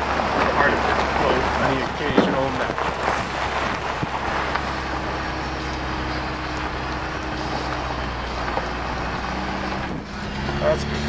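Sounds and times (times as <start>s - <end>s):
car engine drone: 0.0s - 11.0s
tyres rumbling on dirt road: 0.0s - 11.0s.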